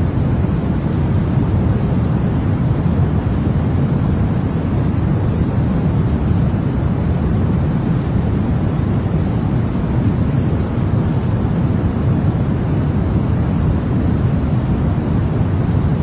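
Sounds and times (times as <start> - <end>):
low rushing noise: 0.0 - 16.0.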